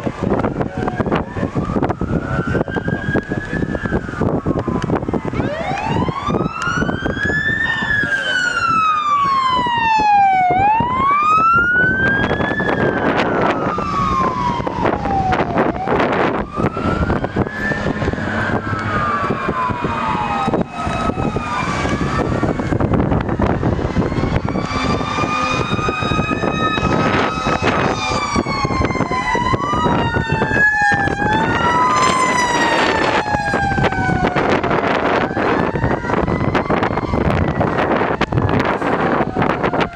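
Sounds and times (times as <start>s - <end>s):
fire truck sirens wailing: 0.0s - 39.9s
road noise: 0.0s - 39.9s
truck engine: 0.0s - 39.9s.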